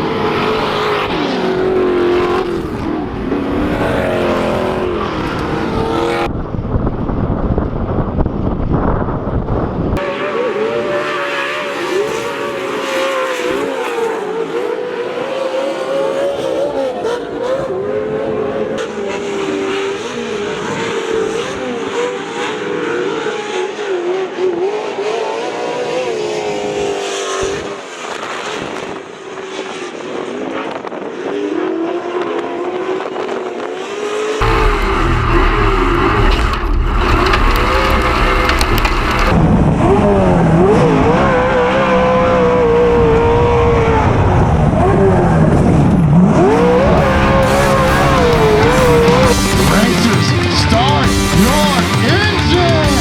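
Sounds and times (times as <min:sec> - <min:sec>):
dirt bike engine revving: 0:00.0 - 0:06.4, 0:10.0 - 0:27.8, 0:33.9 - 0:53.0.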